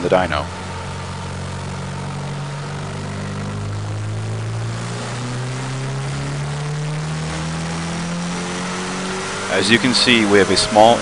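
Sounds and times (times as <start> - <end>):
turbocharged truck engine under load: 0.0 - 11.0.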